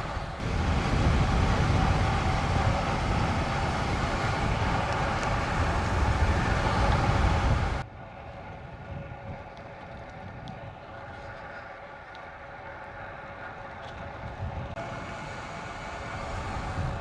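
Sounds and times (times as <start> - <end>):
wind rushing on microphone: 0.0 - 11.6, 13.9 - 17.0
bicycle tyre and road noise: 0.0 - 17.0.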